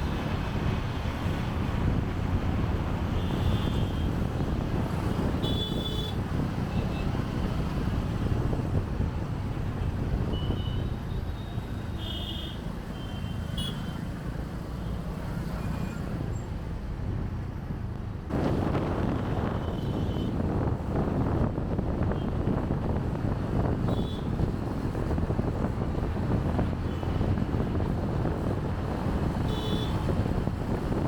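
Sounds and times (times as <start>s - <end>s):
traffic engines and tyres rumble: 0.0s - 31.0s
wind and road noise rush: 0.0s - 31.0s.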